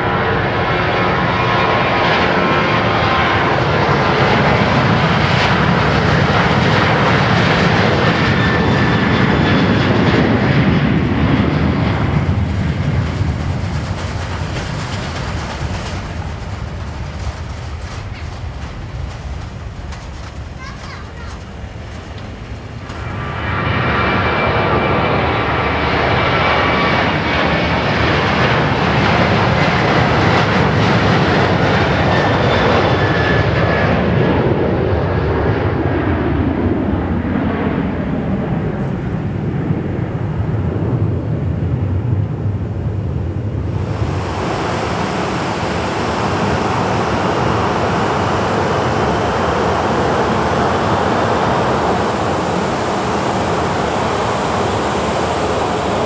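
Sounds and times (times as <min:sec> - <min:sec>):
jet airliner roar at takeoff: 0:00.0 - 0:56.0.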